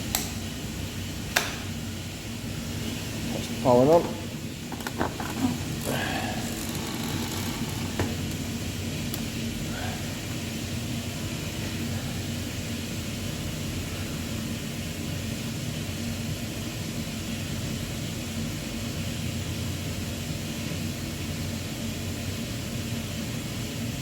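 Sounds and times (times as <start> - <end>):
plant room machinery humming: 0.0 - 24.0.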